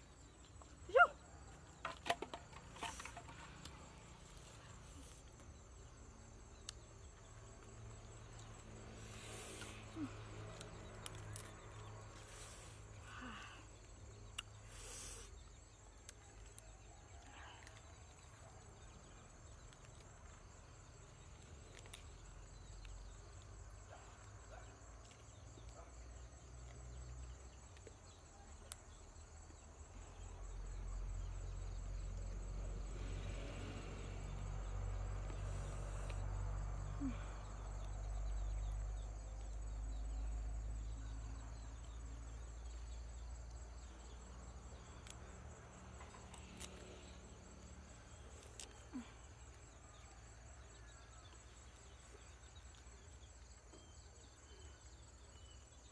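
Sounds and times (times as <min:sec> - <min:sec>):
insect trill: 0:00.0 - 0:55.9.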